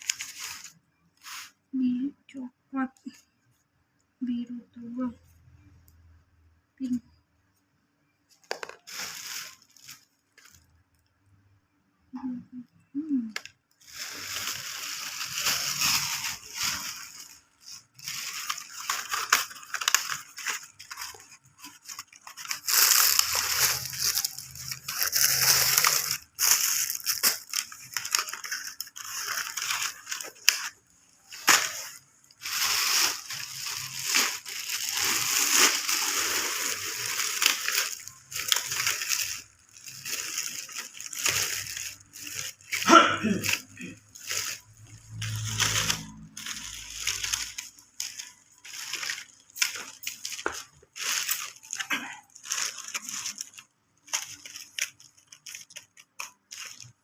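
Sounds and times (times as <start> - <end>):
plastic packaging crinkling: 0.0 - 1.7, 8.3 - 11.4, 13.0 - 57.0.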